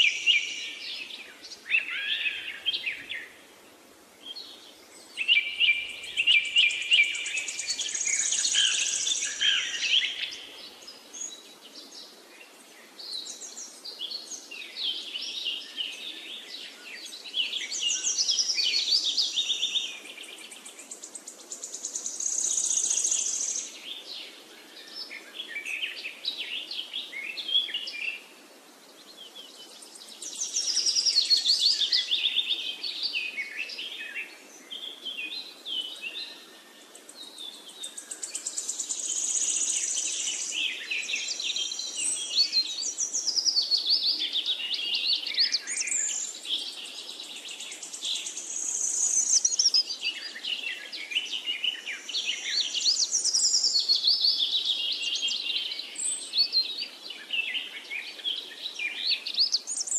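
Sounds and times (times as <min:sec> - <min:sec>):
steady background hiss: 0:00.0 - 0:59.9
birds chirping and trilling: 0:04.2 - 0:28.3, 0:29.1 - 0:59.9.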